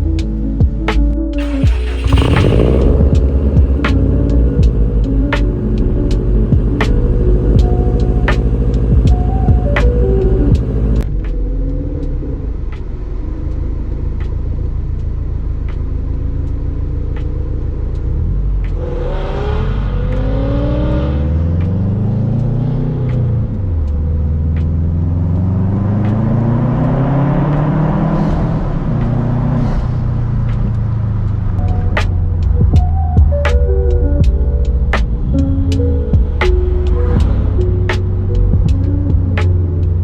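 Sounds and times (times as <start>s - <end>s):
car engine revving: 1.4s - 11.0s, 12.6s - 32.8s, 33.8s - 40.0s.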